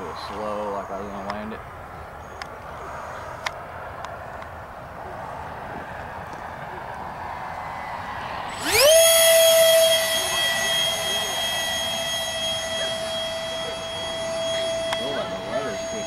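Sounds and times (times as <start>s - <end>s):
electric ducted fan whine: 0.0s - 16.0s.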